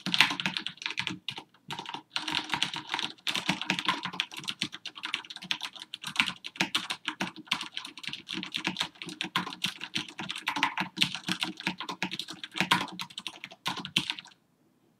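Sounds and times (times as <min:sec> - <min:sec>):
mechanical keyboard typing: 0:00.0 - 0:14.4.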